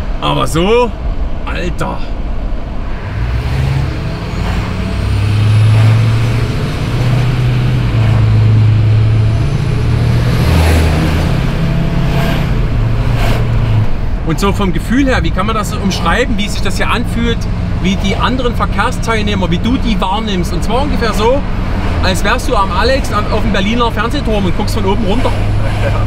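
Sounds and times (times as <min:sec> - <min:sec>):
diesel engine revving hard: 0:02.8 - 0:26.0.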